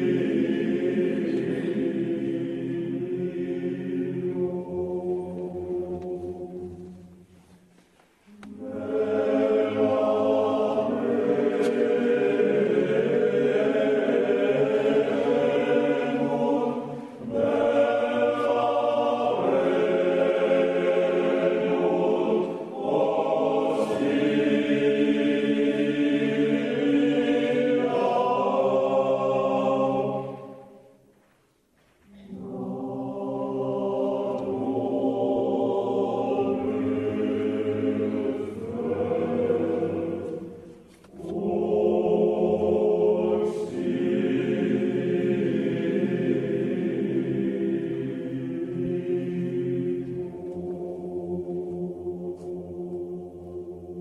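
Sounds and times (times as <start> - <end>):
choir singing long chords: 0.0 - 7.4, 8.2 - 31.1, 32.1 - 54.0.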